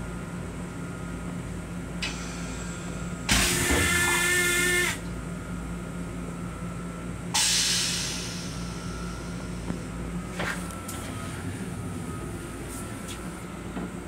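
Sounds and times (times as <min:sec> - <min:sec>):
railcar low hum: 0:00.0 - 0:14.0.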